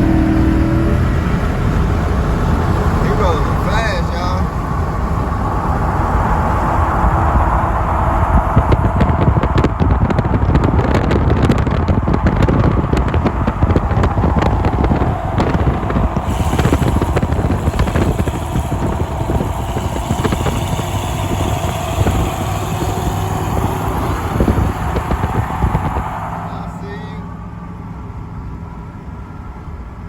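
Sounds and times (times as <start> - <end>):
truck engine and road noise: 0.0 - 30.0
wind rushing through windows: 0.0 - 30.0.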